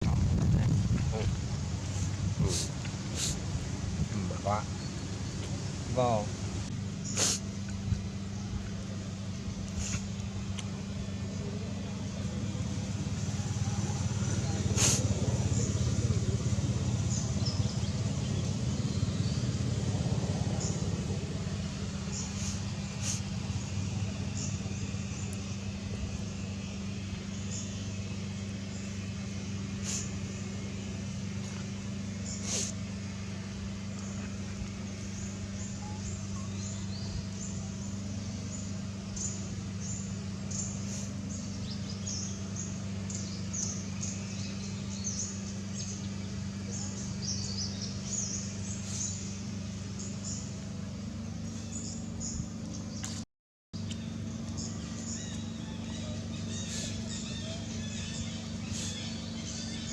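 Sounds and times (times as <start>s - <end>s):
steady low hum: 0.0s - 53.2s, 53.8s - 59.9s.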